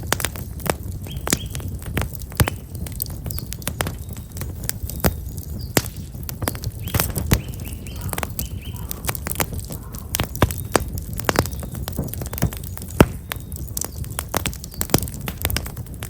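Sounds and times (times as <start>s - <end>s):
campfire crackling: 0.0s - 16.0s
small birds chirping: 0.2s - 15.9s.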